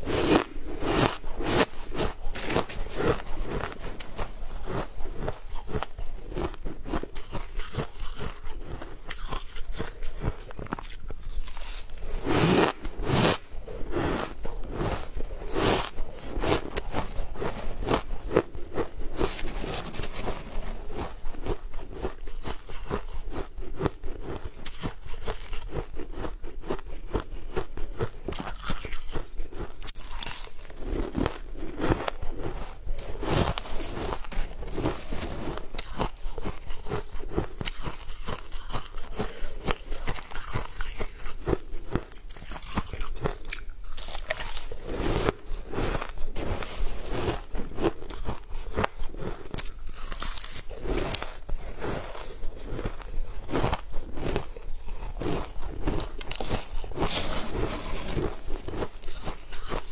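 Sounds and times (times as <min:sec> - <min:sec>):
crunching and chewing ice: 0:00.0 - 0:59.9.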